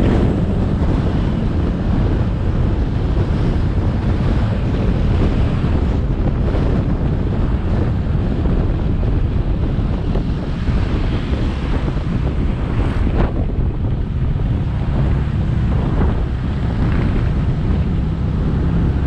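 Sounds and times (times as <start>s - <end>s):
motorcycle engine and road noise: 0.0s - 19.0s
wind rushing over microphone: 0.0s - 19.0s.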